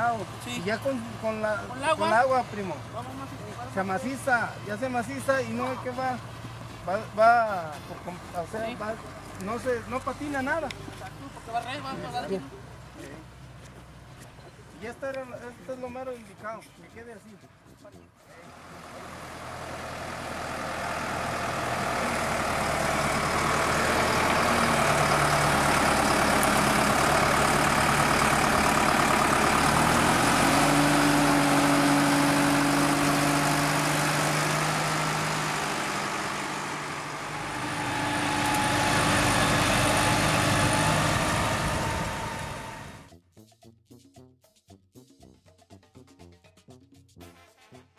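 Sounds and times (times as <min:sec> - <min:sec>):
tractor diesel engine under load: 0:00.0 - 0:14.7, 0:18.4 - 0:43.1.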